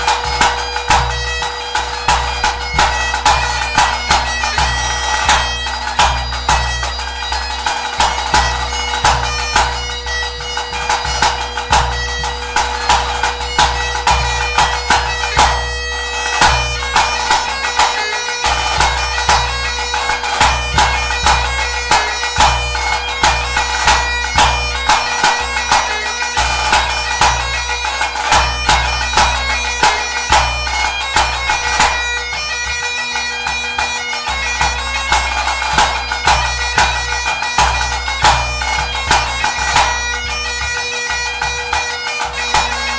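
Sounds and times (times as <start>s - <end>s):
bagpipe playing: 0.0s - 42.9s.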